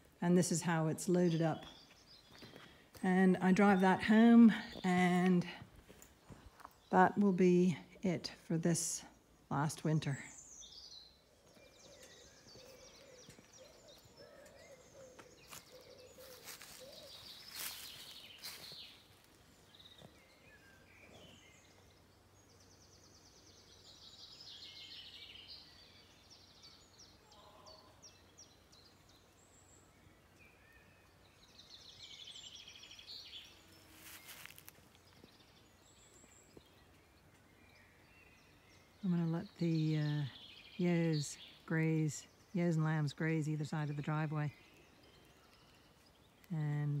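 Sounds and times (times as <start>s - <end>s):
birdsong chirps and trills: 0.0s - 47.0s.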